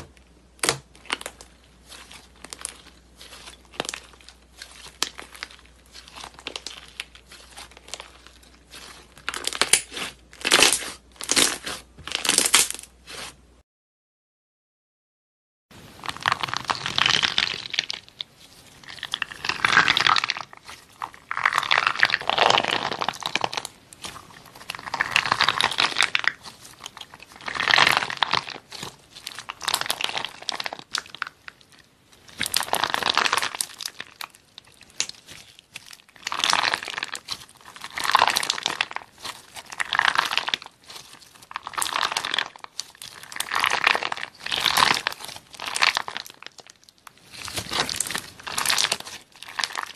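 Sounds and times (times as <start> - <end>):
crunchy slime squishes: 0.0 - 13.6, 15.8 - 49.9.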